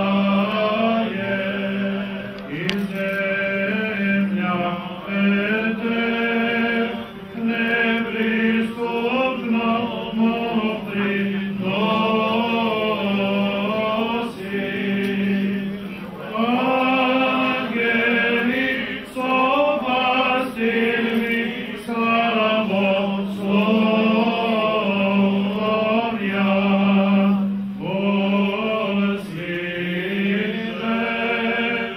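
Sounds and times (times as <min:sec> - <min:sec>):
men chanting a hymn: 0:00.0 - 0:31.9.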